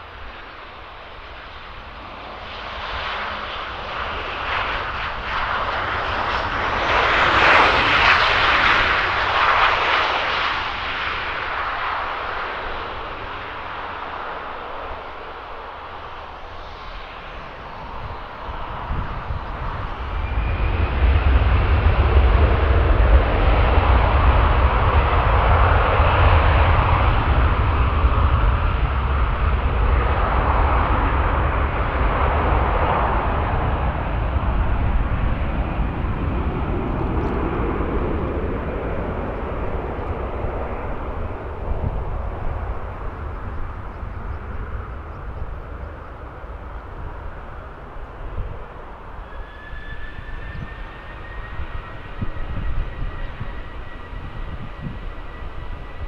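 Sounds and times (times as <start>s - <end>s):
aircraft engines roaring: 0.0s - 56.0s.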